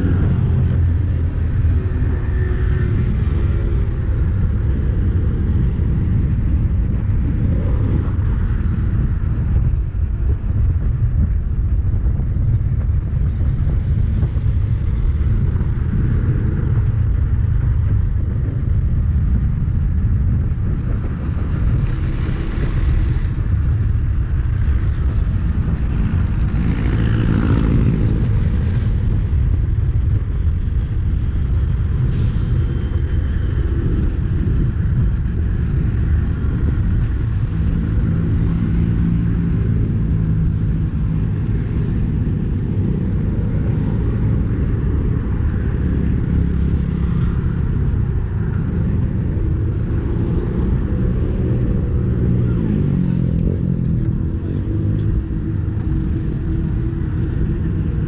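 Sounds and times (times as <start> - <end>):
traffic passing: 0.0 - 58.0
vehicles passing close by: 0.0 - 58.0
wind noise on microphone: 0.0 - 58.0.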